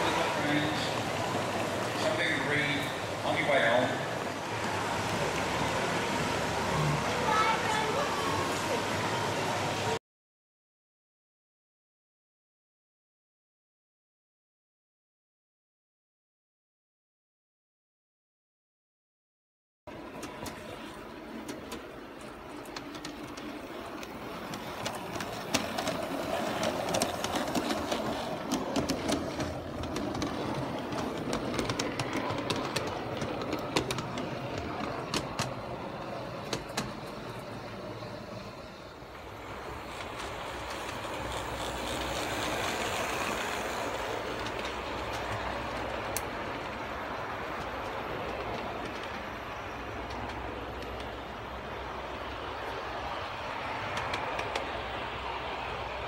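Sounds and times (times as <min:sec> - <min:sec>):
model train wheels clicking on rails: 0:00.0 - 0:09.9, 0:19.9 - 0:56.0.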